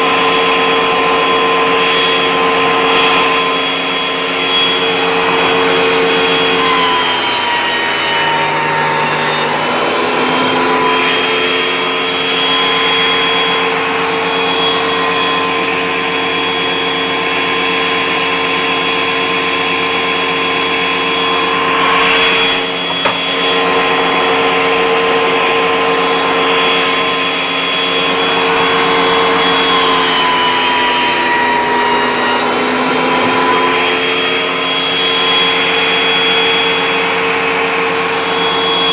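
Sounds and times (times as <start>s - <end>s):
thickness planer whining: 0.0s - 38.9s.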